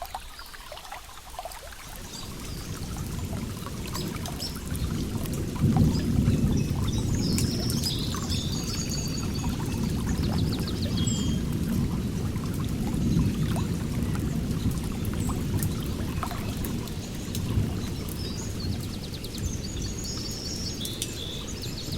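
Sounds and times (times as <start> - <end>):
water flowing and splashing: 0.0 - 21.9
birds chirping: 1.8 - 21.9.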